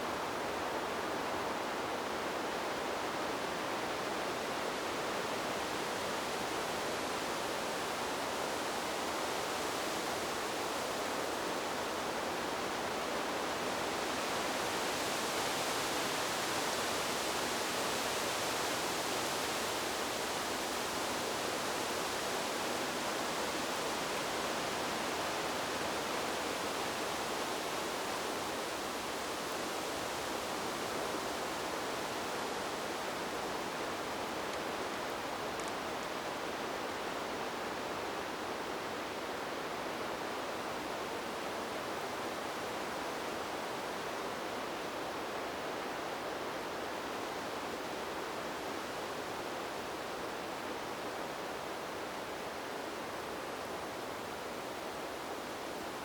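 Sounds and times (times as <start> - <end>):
wind rushing through leaves: 0.0 - 56.0.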